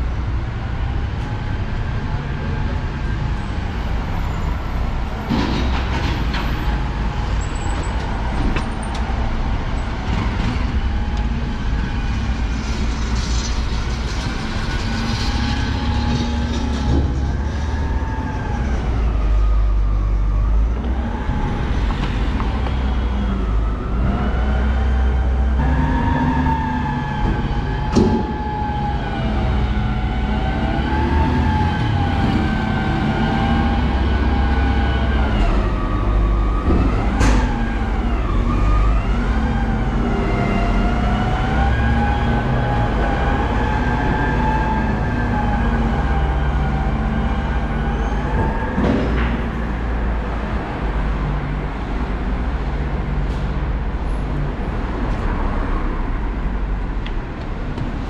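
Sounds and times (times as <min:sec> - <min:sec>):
garbage truck engine rumbling: 0:00.0 - 0:58.0
street traffic: 0:00.0 - 0:58.0.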